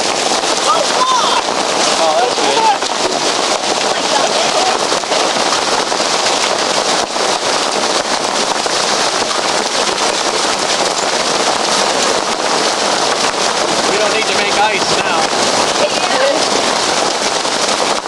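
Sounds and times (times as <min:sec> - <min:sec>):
hailstones clattering: 0:00.0 - 0:18.0.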